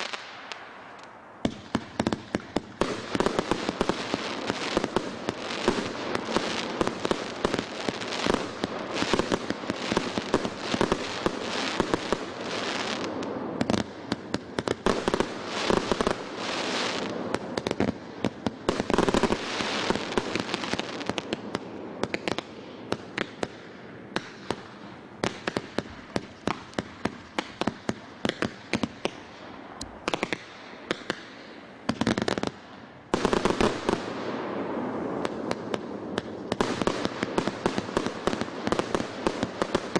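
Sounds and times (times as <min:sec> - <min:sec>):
firework bangs and crackling: 0:00.0 - 0:39.9.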